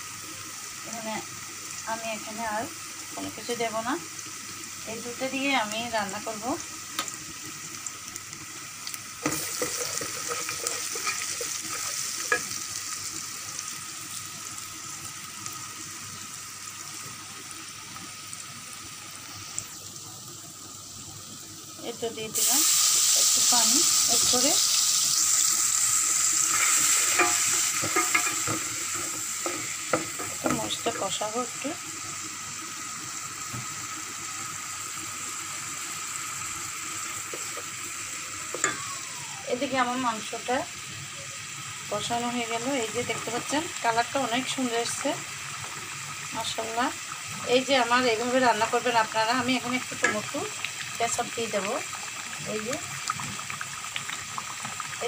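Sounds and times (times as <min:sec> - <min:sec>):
onions sizzling in hot oil: 0:00.0 - 0:55.0.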